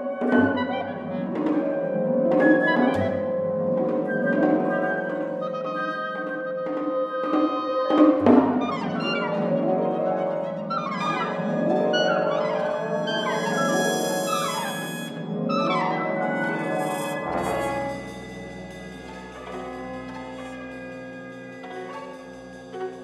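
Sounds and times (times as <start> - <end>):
pitched percussion notes: 0.1 - 23.0.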